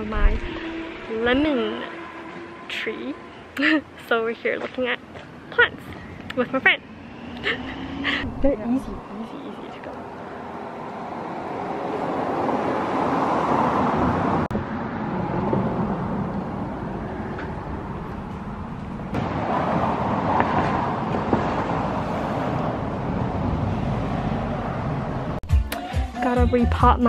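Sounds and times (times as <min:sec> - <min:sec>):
cars passing on street: 0:00.0 - 0:25.4.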